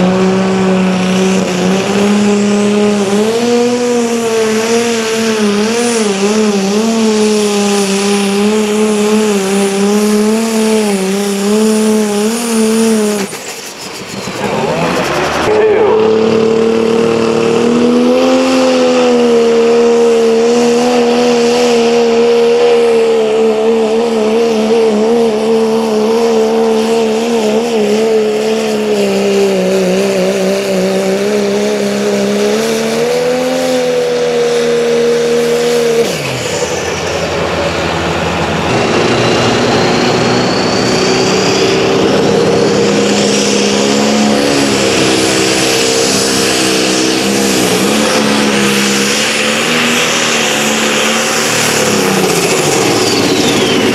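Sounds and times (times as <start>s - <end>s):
engine at high revs: 0.0s - 53.9s
thin rising whine: 0.0s - 53.9s.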